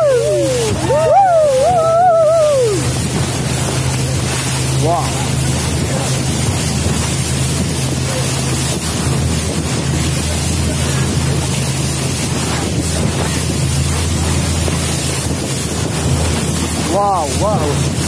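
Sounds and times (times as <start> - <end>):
boat engine drone: 0.0 - 18.0
water rushing and spraying: 0.0 - 18.0
wind buffeting microphone: 0.0 - 18.0.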